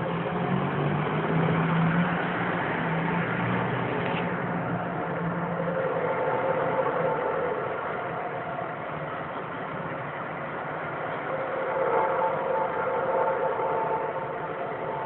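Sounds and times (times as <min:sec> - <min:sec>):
droning hum: 0:00.0 - 0:15.0.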